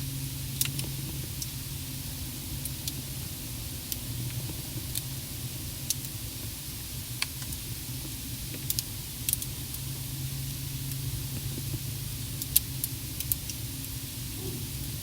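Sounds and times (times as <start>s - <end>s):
low hum and hiss in car cabin: 0.0s - 15.0s.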